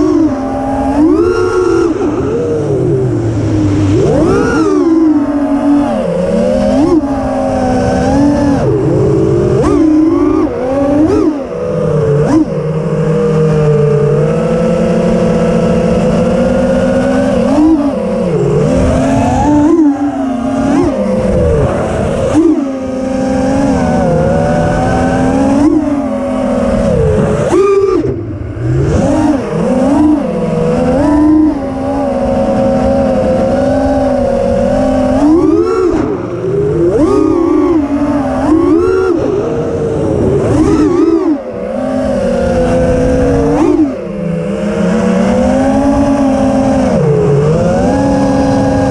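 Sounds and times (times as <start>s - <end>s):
quadcopter motors whining: 0.0s - 48.9s.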